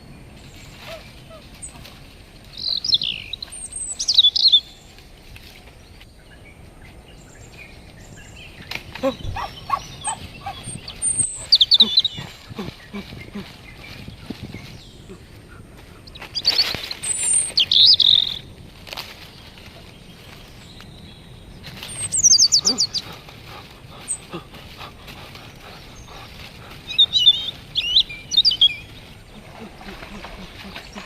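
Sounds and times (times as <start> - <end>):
birds chirping: 0.0 - 31.0
quiet outdoor background: 0.0 - 31.0.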